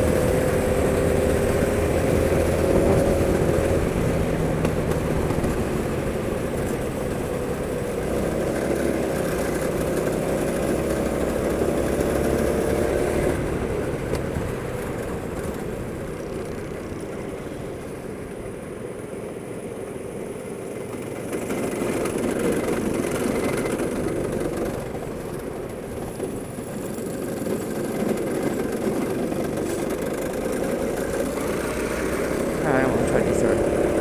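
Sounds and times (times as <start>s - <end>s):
go-kart engine running: 0.0s - 34.0s.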